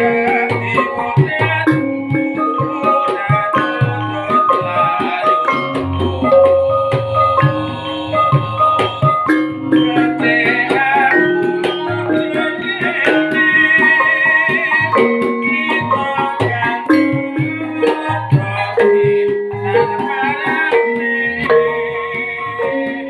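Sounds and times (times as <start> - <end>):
bronze metallophones melody: 0.0 - 23.0
hand drum strokes: 0.0 - 23.0
wavering high melodic line: 0.0 - 23.0.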